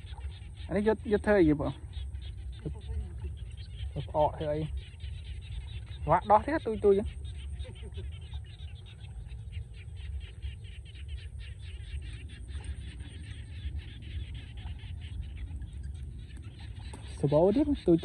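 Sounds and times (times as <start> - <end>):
distant bird calls: 0.0 - 18.0
steady low rumble: 0.0 - 18.0.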